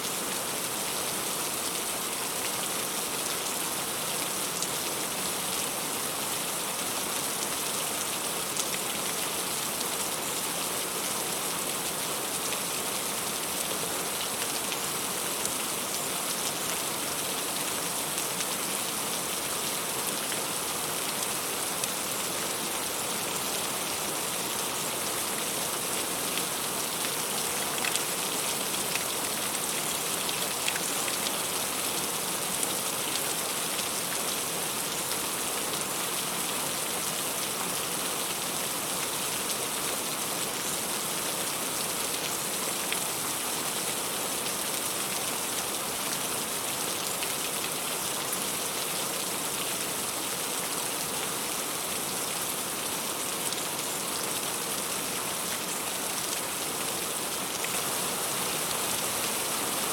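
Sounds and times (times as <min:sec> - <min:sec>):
heavy rain on leaves: 0:00.0 - 0:59.9.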